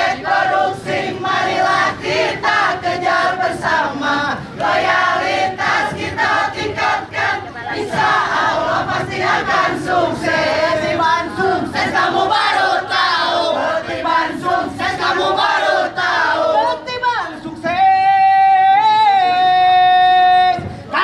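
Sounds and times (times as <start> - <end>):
crowd chanting and singing: 0.0 - 21.0.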